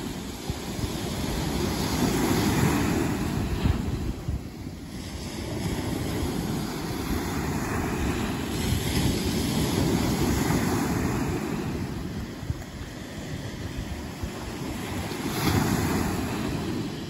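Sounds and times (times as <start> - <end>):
waves breaking on sandy shore: 0.0 - 17.0
wind rumble on microphone: 0.0 - 17.0.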